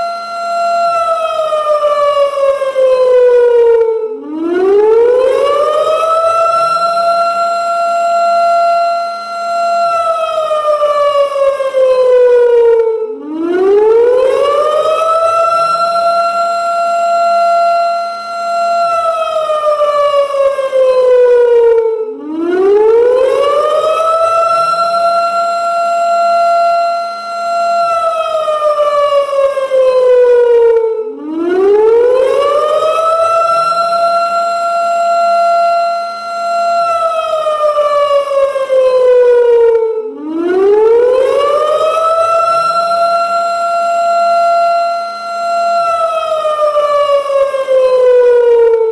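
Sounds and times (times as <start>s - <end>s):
warning siren wailing: 0.0s - 48.9s.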